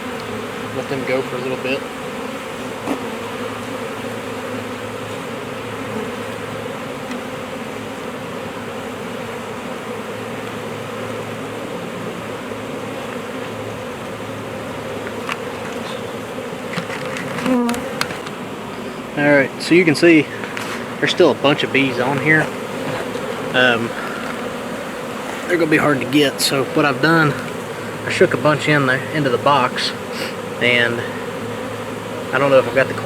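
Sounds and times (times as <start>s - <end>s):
swarm of bees buzzing: 0.0s - 33.0s.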